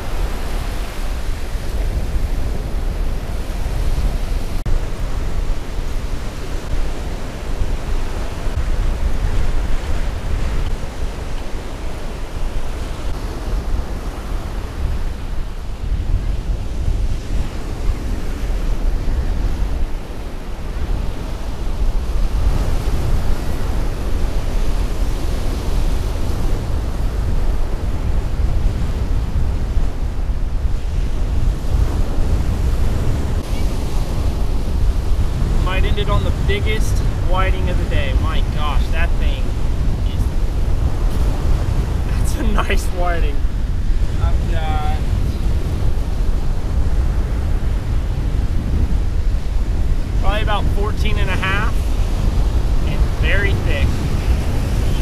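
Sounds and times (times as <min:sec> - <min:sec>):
surf breaking on beach: 0:00.0 - 0:55.0
wind buffeting microphone: 0:00.0 - 0:55.0.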